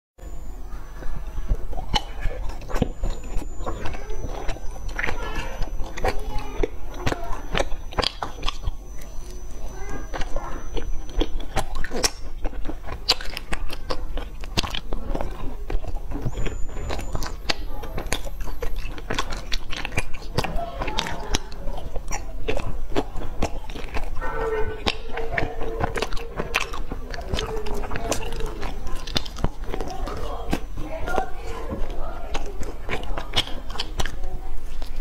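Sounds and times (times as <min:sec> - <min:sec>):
crunchy pastry chewing: 0:00.2 - 0:35.0.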